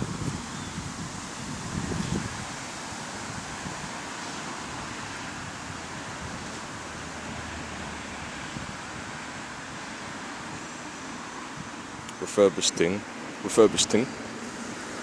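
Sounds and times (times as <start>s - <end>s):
bus running noise: 0.0s - 15.0s.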